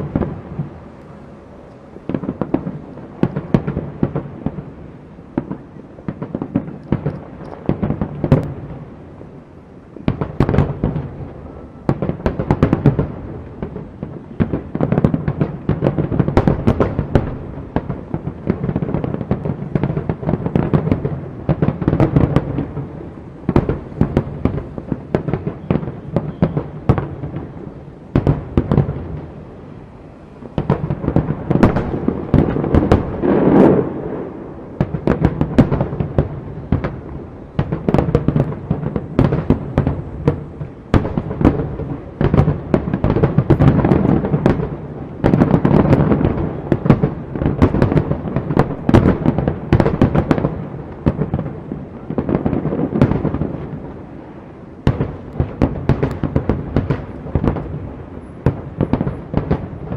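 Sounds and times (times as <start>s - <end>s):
fireworks booms: 0.0s - 1.0s, 1.9s - 59.9s
fireworks crackling pops: 0.0s - 59.9s.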